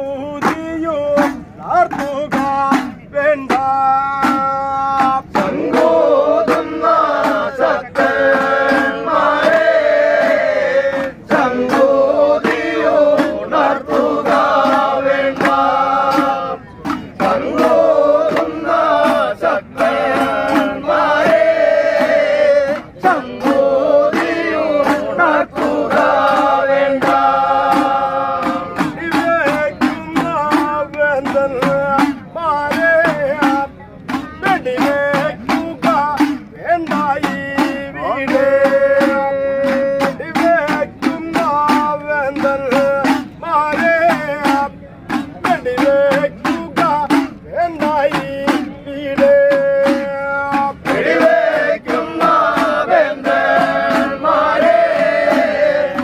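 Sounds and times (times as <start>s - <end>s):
hand drums beating: 0.0s - 56.0s
men singing devotional song: 0.0s - 56.0s.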